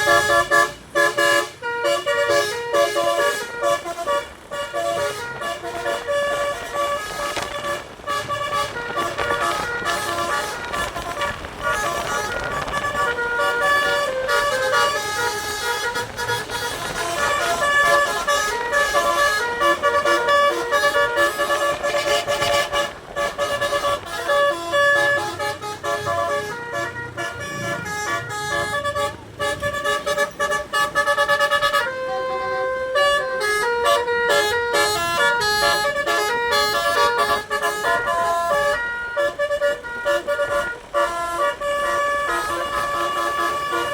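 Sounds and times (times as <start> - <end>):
bus musical air horn melody: 0.0 - 43.9.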